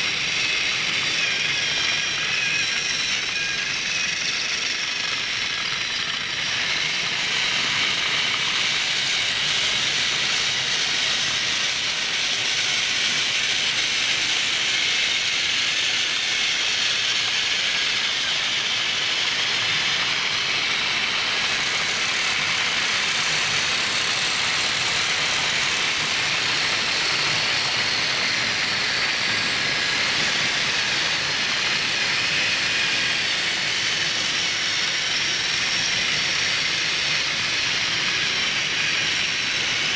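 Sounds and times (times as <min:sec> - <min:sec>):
toy trains whirring on track: 0:00.0 - 0:39.9.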